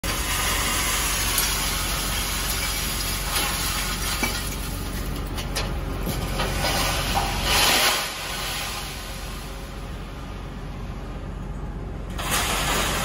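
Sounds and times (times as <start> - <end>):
machine engine and hydraulics running: 0.0 - 13.0.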